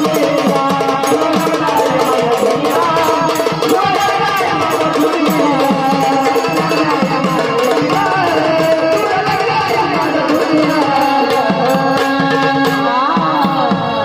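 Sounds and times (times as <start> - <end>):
hand drum beat: 0.0 - 14.0.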